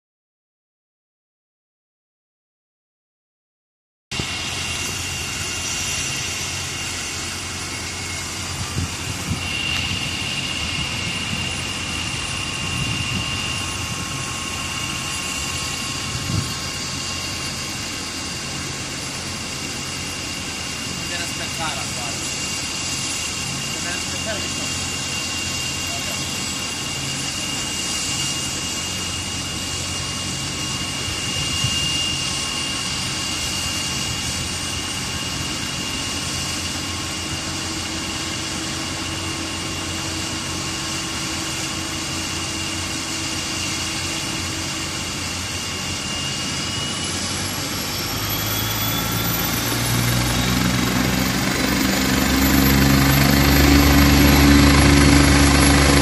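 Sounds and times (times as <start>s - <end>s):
helicopter rotor beat: 4.1s - 56.0s
helicopter turbine whine: 4.1s - 56.0s.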